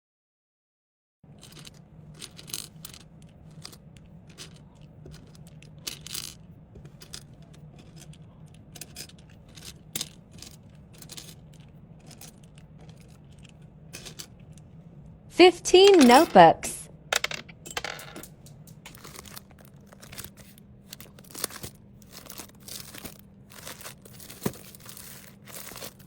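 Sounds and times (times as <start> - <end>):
steady low hum: 1.3 - 26.0
packaging rustling and clinking: 1.4 - 14.6, 17.2 - 26.0.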